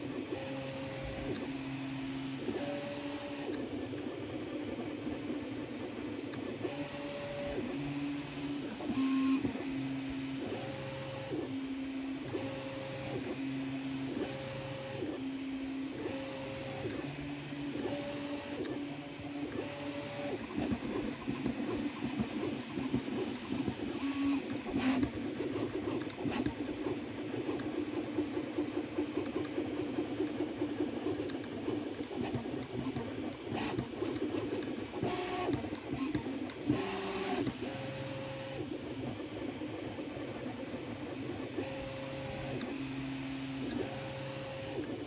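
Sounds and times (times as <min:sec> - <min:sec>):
printer buzzing chatter: 0:00.0 - 0:45.0.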